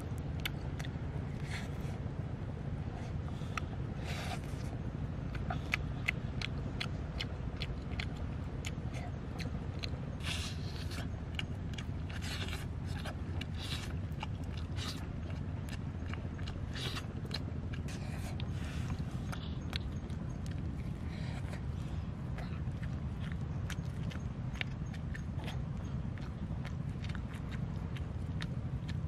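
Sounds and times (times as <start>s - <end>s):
low rumble: 0.0s - 29.0s
wet chewing and lip smacks: 0.0s - 29.0s.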